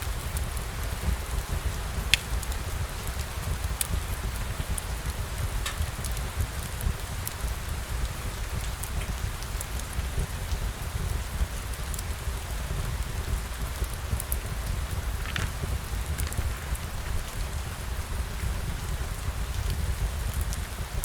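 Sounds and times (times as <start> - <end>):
rain falling: 0.0 - 21.0
sharp ticks of raindrops: 0.0 - 21.0.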